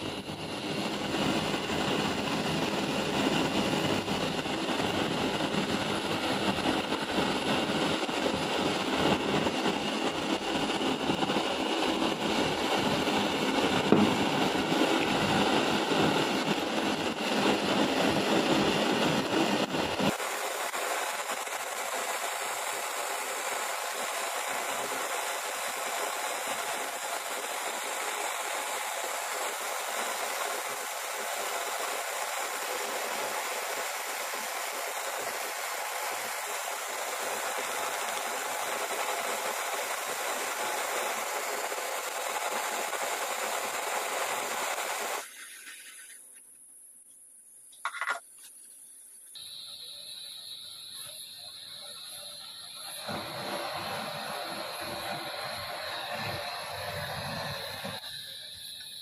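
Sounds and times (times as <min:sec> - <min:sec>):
rushing hissing noise: 0:00.0 - 0:47.0, 0:47.8 - 0:59.0.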